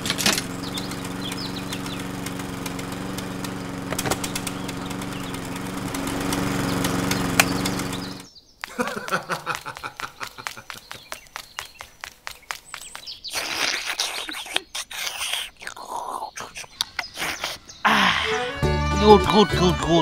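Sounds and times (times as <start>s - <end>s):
small engine humming: 0.0s - 13.7s, 16.5s - 20.0s
birds chirping: 0.0s - 19.9s.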